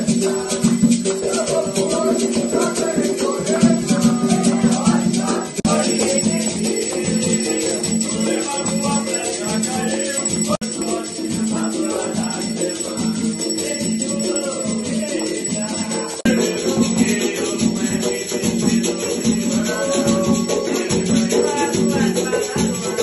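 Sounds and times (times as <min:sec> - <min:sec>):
rattles shaking: 0:00.0 - 0:23.0
voices singing a chant: 0:00.0 - 0:23.0.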